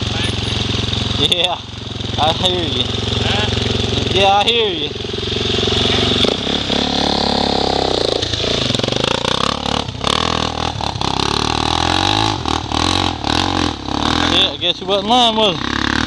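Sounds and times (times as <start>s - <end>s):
engines revving: 0.0s - 16.0s.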